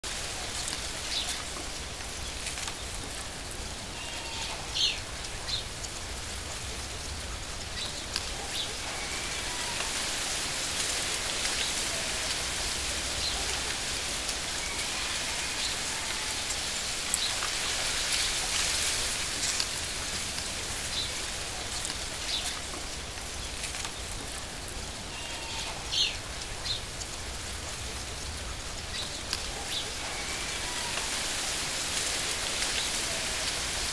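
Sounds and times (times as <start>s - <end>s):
rain-like hiss: 0.0s - 33.9s.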